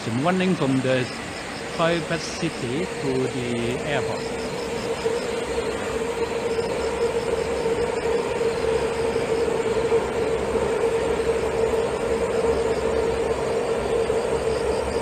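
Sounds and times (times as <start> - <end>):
steady tonal noise: 0.0 - 15.0
train rolling rumble: 0.0 - 15.0.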